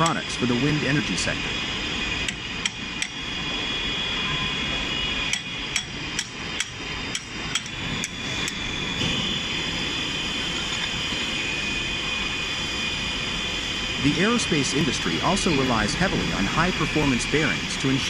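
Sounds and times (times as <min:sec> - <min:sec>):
machine whine and hum: 0:00.0 - 0:18.0.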